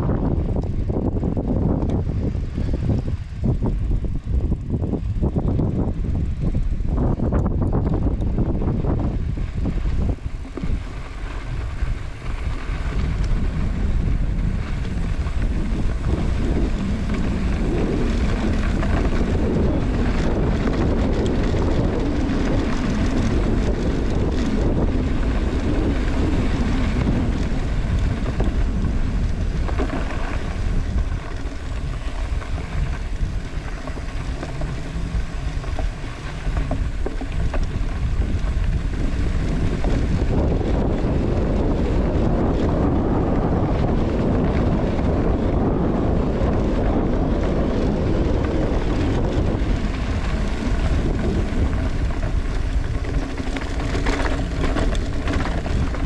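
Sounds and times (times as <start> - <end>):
low rumble of travel: 0.0 - 56.0
wind buffeting microphone: 0.0 - 56.0.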